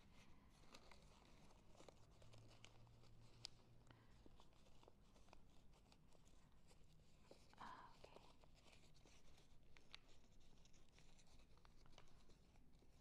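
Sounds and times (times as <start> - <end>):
paper crinkling and folding: 0.0 - 13.0.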